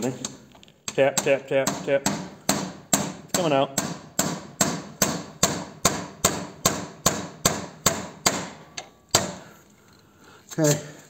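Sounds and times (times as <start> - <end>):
hammer tapping metal axle: 0.2 - 9.4.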